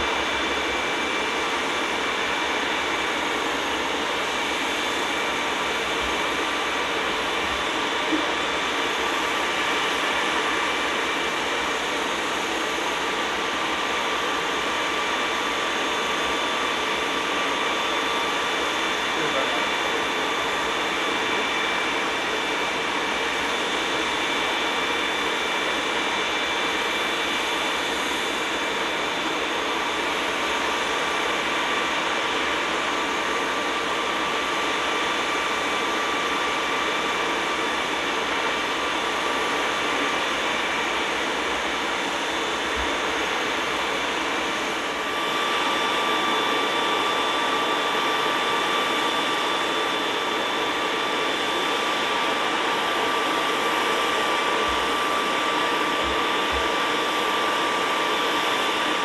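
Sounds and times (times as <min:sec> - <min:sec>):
turbine engines whining: 0:00.0 - 0:59.0.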